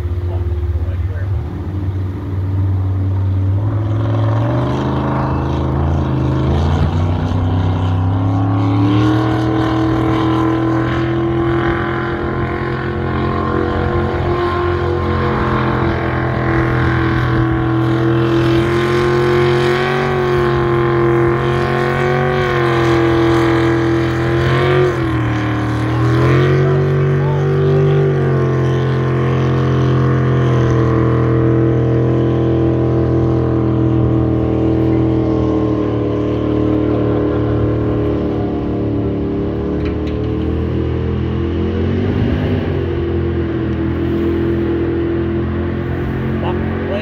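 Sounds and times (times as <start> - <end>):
jet boat engine at high revs: 0.0 - 47.0.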